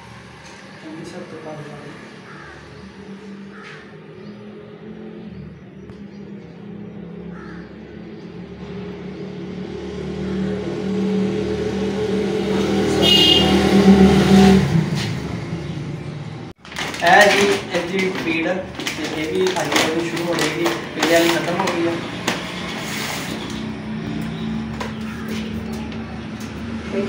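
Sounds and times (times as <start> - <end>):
vehicle engine hum: 0.0 - 27.0.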